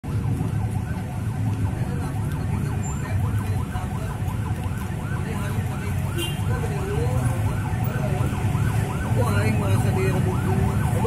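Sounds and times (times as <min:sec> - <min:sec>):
emergency siren yelping: 0:00.0 - 0:11.0
low rumble of street traffic: 0:00.0 - 0:11.0.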